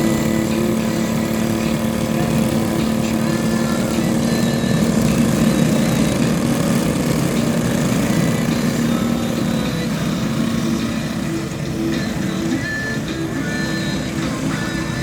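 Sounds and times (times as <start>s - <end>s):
motorcycle engines droning: 0.0s - 15.0s.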